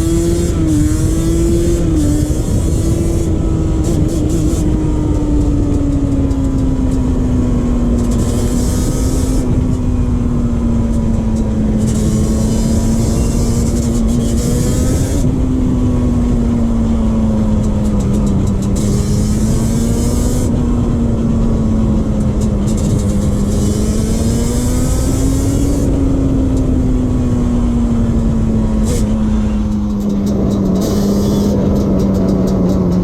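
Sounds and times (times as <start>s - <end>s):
two-stroke engine running: 0.0s - 33.0s
wind rumble on microphone: 0.0s - 33.0s.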